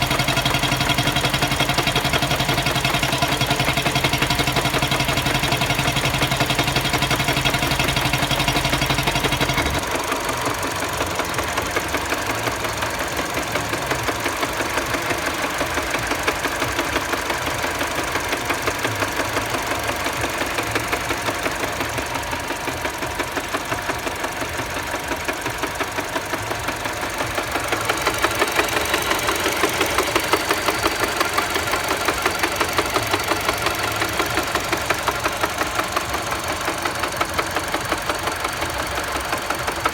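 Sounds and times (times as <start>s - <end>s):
engine knocking: 0.0s - 39.9s.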